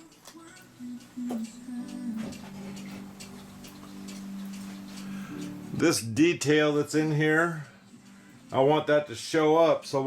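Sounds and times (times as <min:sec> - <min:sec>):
mechanical clock ticking: 0:00.0 - 0:10.0
background music held note: 0:00.8 - 0:10.0.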